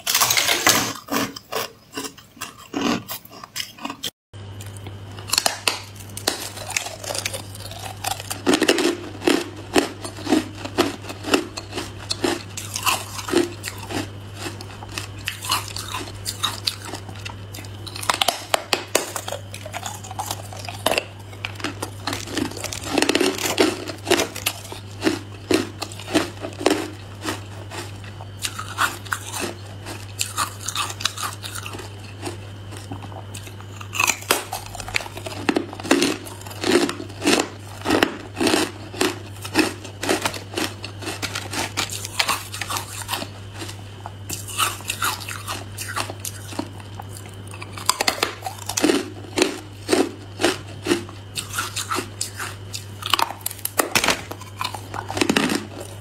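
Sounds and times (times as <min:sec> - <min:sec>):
crunching ice: 0:00.0 - 0:56.0
steady low hum: 0:00.0 - 0:56.0
chewing: 0:00.1 - 0:56.0.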